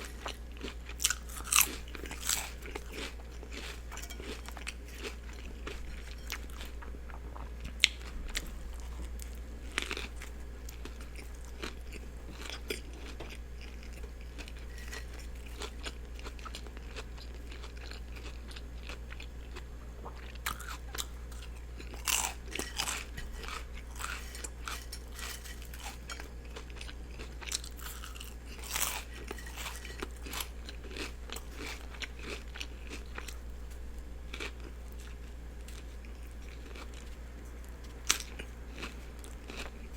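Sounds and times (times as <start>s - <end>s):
person chewing and biting sandwich: 0.0s - 33.4s, 37.9s - 39.9s
steady low hum: 0.0s - 39.9s.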